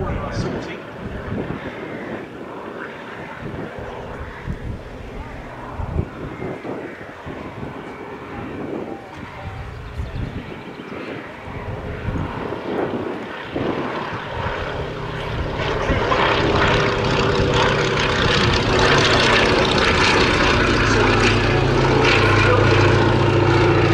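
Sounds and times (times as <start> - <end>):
propeller plane engine droning: 0.0 - 23.9.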